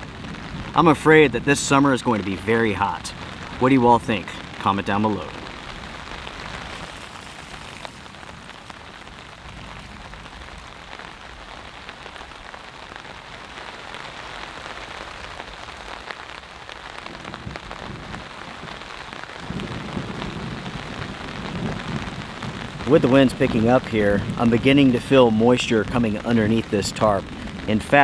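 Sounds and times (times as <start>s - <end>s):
rain pattering on a tarp: 0.0s - 28.0s.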